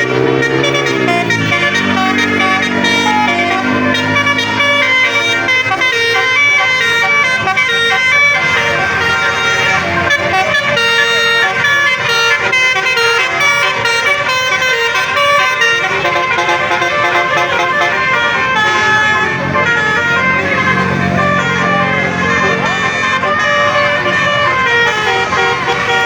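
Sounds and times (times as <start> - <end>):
multi-tone air horn melody: 0.0 - 26.0.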